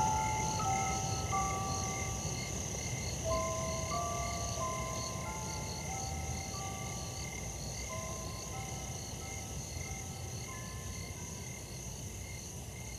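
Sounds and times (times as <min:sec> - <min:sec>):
soft slow melody: 0:00.0 - 0:02.6, 0:03.2 - 0:11.4.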